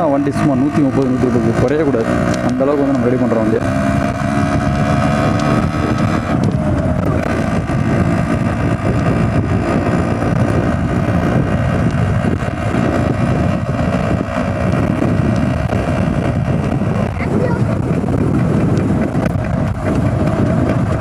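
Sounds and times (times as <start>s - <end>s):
motorcycle engine running: 0.0s - 21.0s
wind rumble on microphone: 0.0s - 21.0s.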